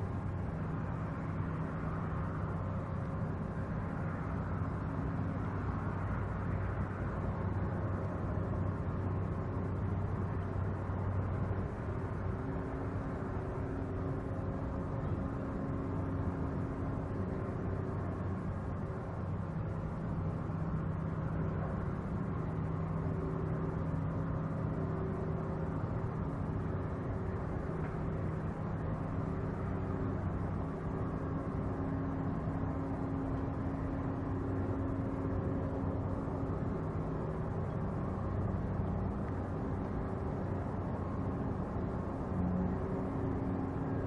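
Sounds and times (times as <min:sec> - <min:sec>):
ship engine droning: 0:00.0 - 0:44.0.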